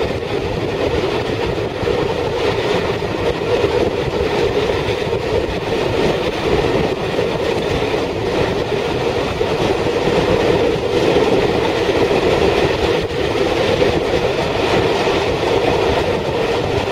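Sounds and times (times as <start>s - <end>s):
train wheels rumbling on track: 0.0s - 16.9s.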